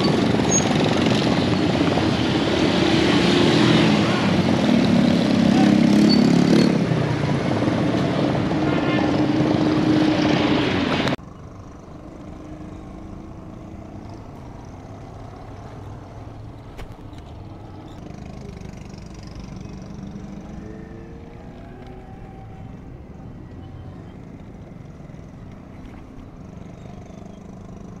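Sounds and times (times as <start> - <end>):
close vehicle engine humming: 0.0 - 28.0
distant traffic passing: 0.0 - 28.0.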